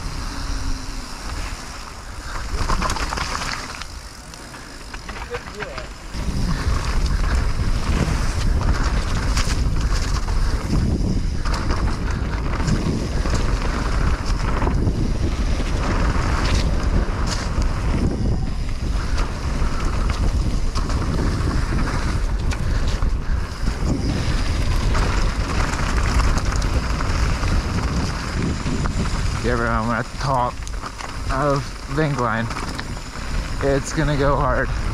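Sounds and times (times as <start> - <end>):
wind rushing over microphone: 0.0 - 34.9
bike knocks and rattles: 2.2 - 34.9.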